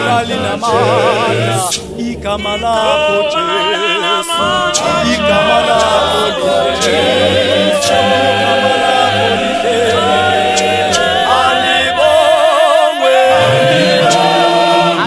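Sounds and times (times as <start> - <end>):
mixed choir singing a cappella: 0.0 - 15.0.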